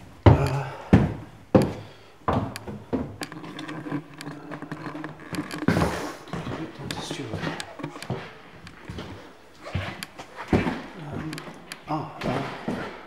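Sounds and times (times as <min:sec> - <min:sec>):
heavy footsteps on stairs: 0:00.0 - 0:13.0.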